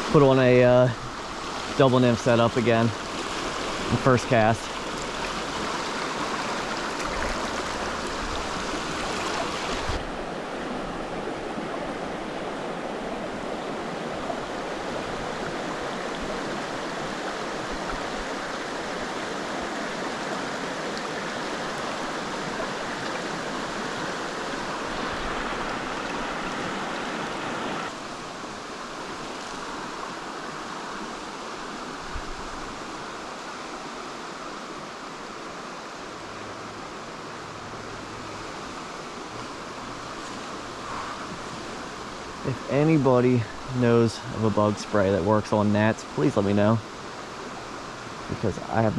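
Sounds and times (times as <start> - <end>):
flowing stream rushing: 0.0 - 48.9.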